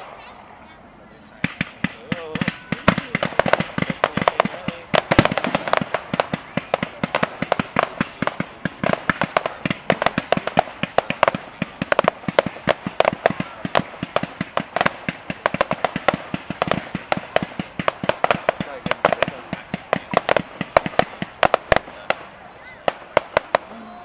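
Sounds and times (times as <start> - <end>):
fireworks cracking and banging: 0.0 - 24.0.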